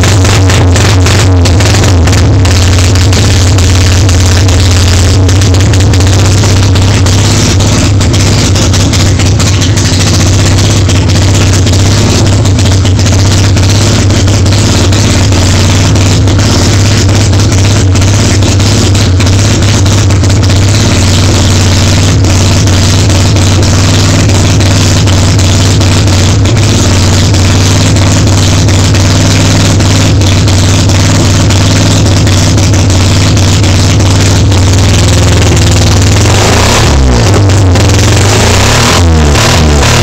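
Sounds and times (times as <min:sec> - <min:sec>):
rotary engine at fast idle: 0:00.0 - 0:40.0.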